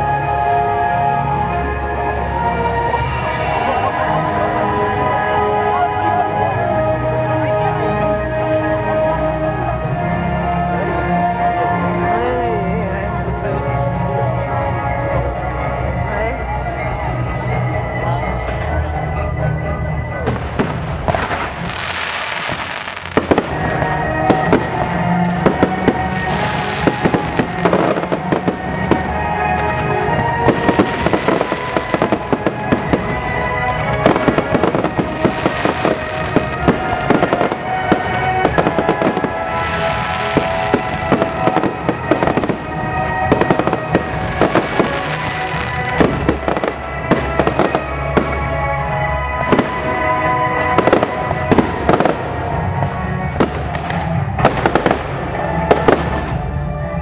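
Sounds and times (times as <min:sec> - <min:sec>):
fireworks bangs and crackles: 0:00.0 - 0:17.1, 0:20.1 - 0:57.0
music with sustained tones: 0:00.0 - 0:57.0.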